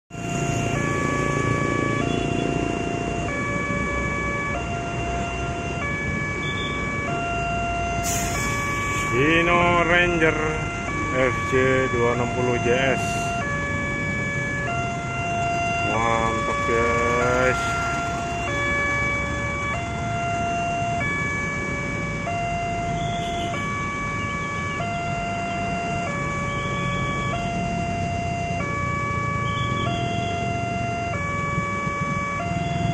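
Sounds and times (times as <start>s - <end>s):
level crossing two-tone alarm: 0.1s - 32.9s
traffic engines running: 0.1s - 32.9s.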